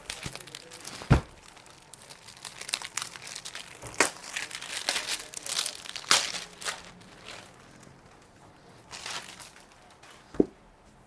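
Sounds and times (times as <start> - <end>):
plastic wrapping crinkling: 0.0 - 10.5.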